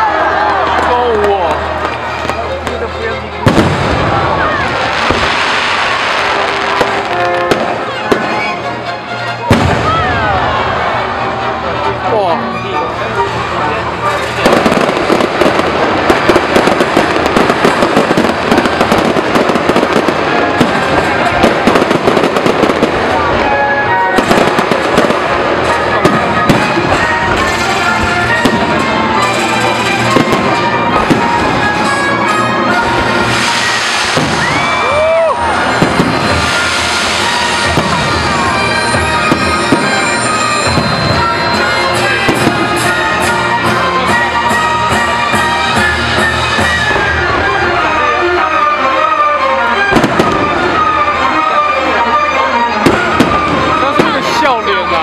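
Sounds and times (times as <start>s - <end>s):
fireworks bangs and crackles: 0.0s - 12.1s, 12.9s - 55.0s
orchestral music: 0.0s - 55.0s.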